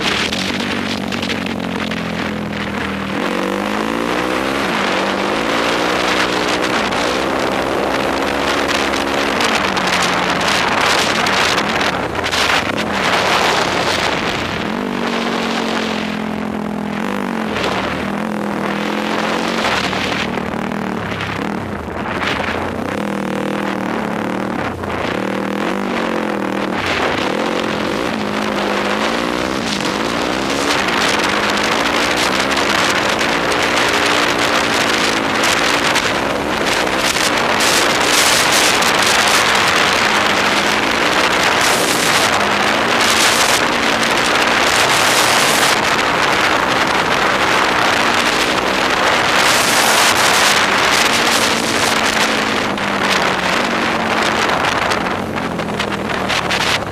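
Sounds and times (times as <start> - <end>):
quad engine revving: 0.0 - 56.9
wind rushing over microphone: 0.0 - 56.9.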